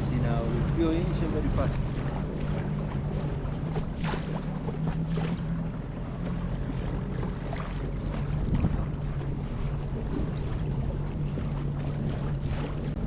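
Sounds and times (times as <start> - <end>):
water and wind hiss: 0.0 - 12.9
outboard motor running: 0.0 - 13.0.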